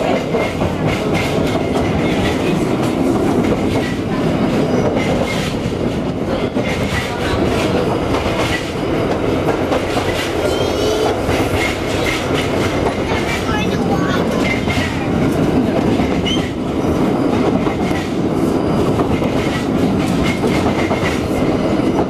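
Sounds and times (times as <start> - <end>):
streetcar rumble: 0.0 - 22.0.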